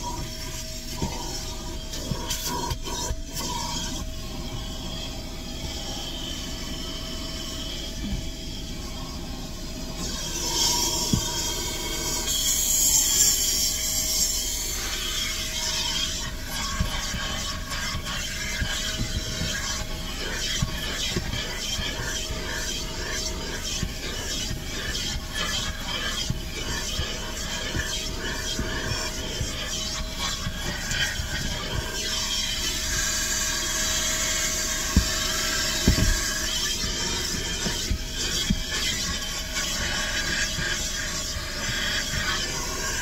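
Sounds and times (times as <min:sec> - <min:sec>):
rubbing and scraping on car interior: 0:00.0 - 0:04.6, 0:09.1 - 0:43.0.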